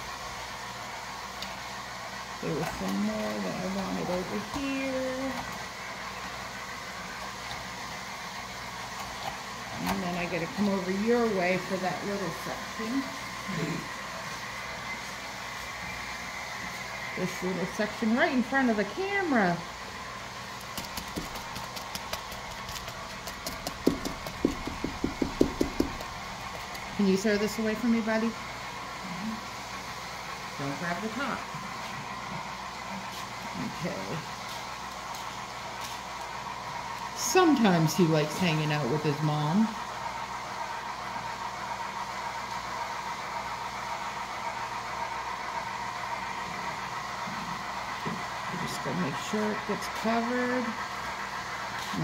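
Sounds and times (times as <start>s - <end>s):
low mechanical hum: 0.0s - 52.0s.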